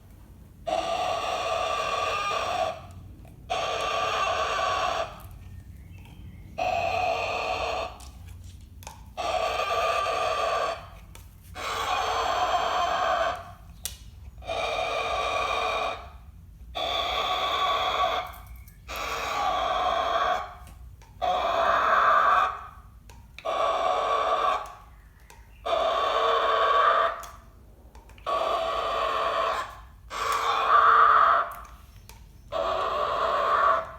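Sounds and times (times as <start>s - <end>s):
cockatoo screeching: 0.6s - 5.4s, 6.6s - 8.2s, 9.2s - 13.6s, 14.4s - 25.0s, 25.6s - 27.4s, 28.2s - 31.7s, 32.5s - 33.9s.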